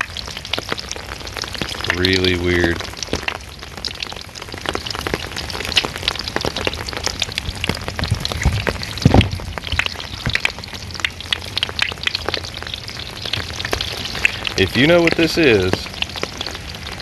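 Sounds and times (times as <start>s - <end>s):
rain pattering: 0.0s - 17.0s
wet foam board crackling: 0.8s - 17.0s.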